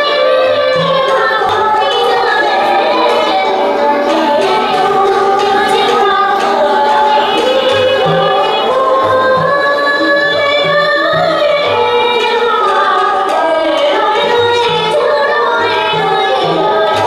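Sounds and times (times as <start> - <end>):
small instrumental ensemble: 0.0 - 17.0.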